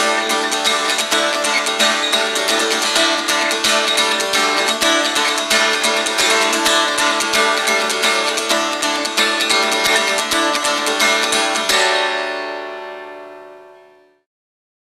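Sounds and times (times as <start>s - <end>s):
guitar strumming chords: 0.0s - 14.1s.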